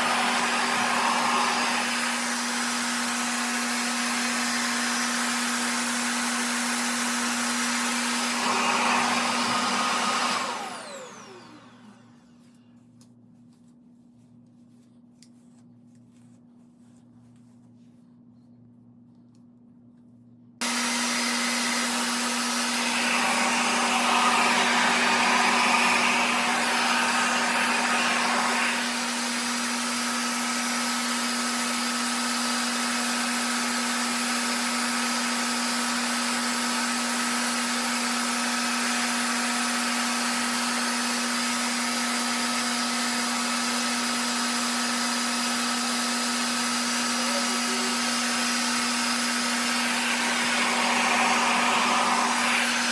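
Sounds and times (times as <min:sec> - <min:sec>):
blow dryer humming: 0:00.0 - 0:12.5, 0:20.6 - 0:52.9.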